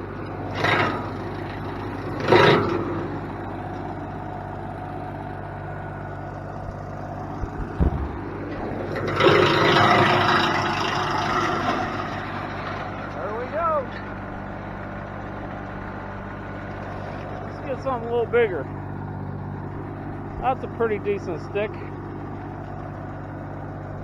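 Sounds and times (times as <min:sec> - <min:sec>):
wood chipper grinding branches: 0:00.0 - 0:24.0
wood chipper running: 0:00.0 - 0:24.0.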